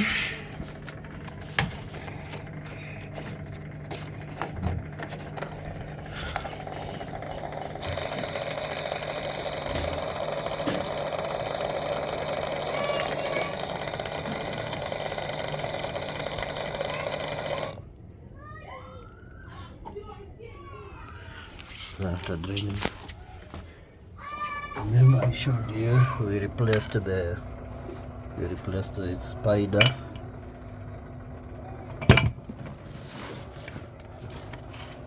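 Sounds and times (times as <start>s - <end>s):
washing machine humming: 0.0s - 35.0s
washing machine spin whirring: 0.0s - 35.0s.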